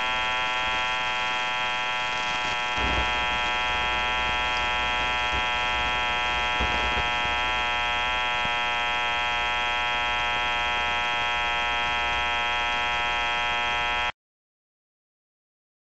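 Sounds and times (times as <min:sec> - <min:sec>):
steady electrical buzz: 0:00.0 - 0:14.1.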